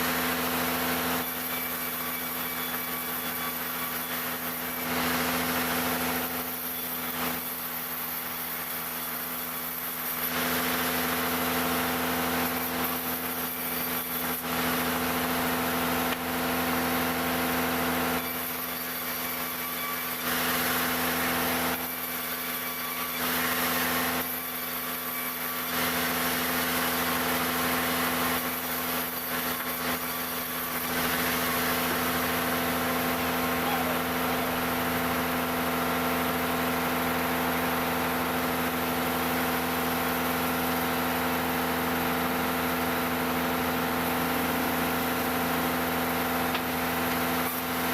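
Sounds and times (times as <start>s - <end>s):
sawmill saw cutting wood: 0.0s - 47.9s.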